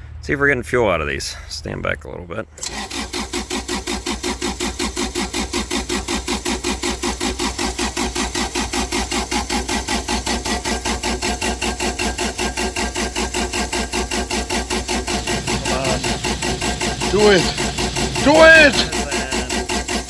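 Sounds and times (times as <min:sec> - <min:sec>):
diesel engine cranking: 0:02.5 - 0:20.0.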